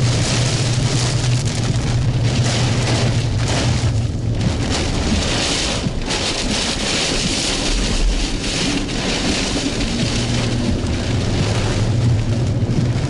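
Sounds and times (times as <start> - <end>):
engine and road hum: 0.0 - 13.0
heavy rain pelting a vehicle: 0.0 - 13.0.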